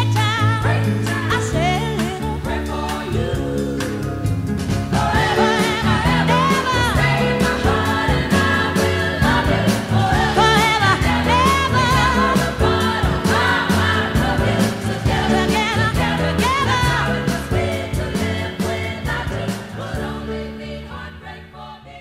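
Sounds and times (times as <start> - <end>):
music with singing voice: 0.0 - 22.0.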